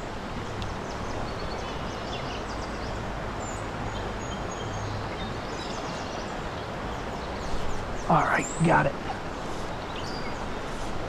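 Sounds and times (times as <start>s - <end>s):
flowing creek: 0.0s - 11.0s.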